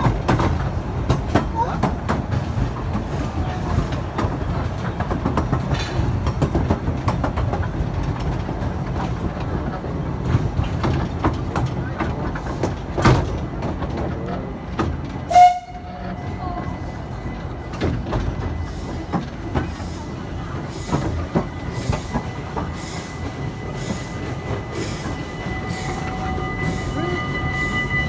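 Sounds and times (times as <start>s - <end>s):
train rumbling on track: 0.0s - 28.0s
wheels clacking on rail joints: 0.0s - 28.0s.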